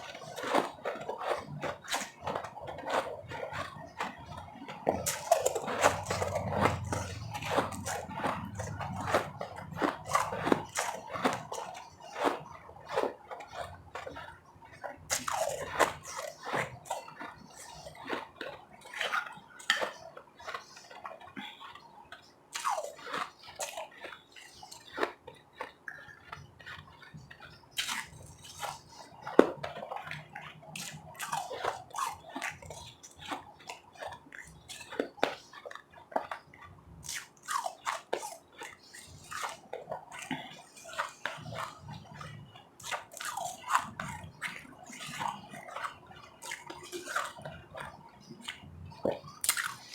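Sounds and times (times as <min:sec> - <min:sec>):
ice crunching and chewing: 0:00.0 - 0:49.9.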